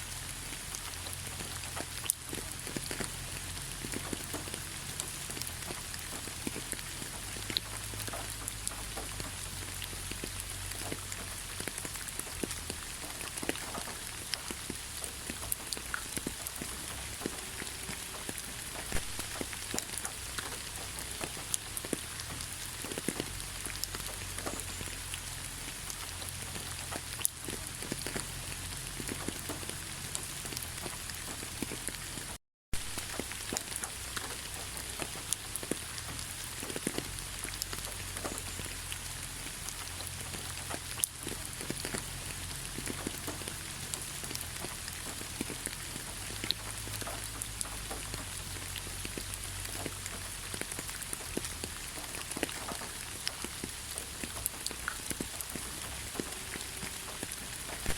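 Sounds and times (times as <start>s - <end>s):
rain drops ticking on a surface: 0.0s - 57.9s.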